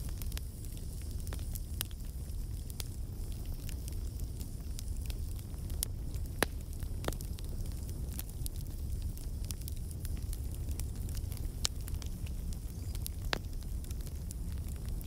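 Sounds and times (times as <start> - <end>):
low rumble of flames: 0.0 - 15.0
sharp pops from fire: 0.0 - 15.0
wood fire crackling: 0.0 - 15.0.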